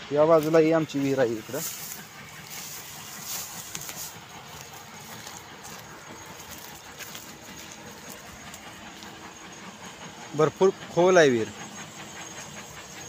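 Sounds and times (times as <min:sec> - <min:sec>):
distant machinery drone: 0:00.0 - 0:13.0.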